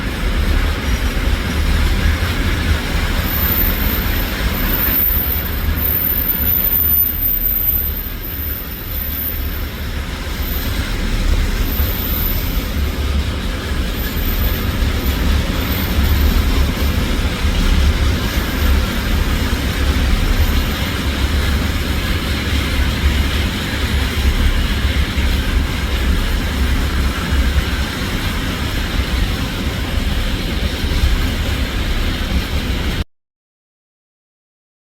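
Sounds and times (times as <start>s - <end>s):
goods train rumbling on rails: 0.0s - 33.0s.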